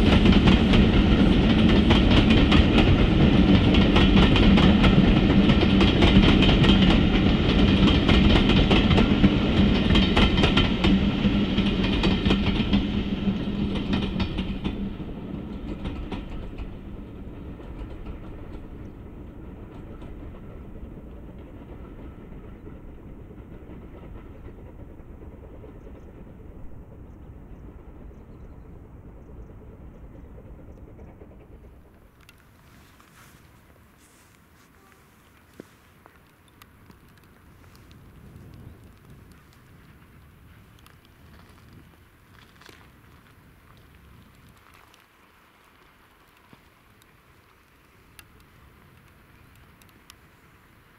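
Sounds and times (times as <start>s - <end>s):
steam locomotive passing: 0.0s - 50.9s.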